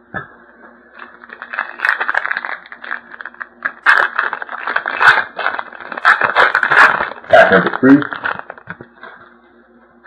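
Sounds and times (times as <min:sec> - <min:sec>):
card wrappers rustling and crinkling: 0:01.0 - 0:09.1.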